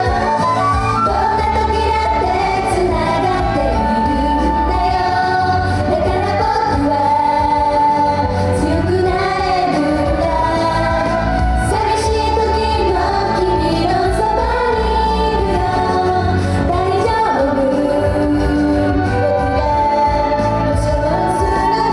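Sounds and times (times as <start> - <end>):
live band playing: 0.0 - 21.9
female vocals: 1.0 - 21.9.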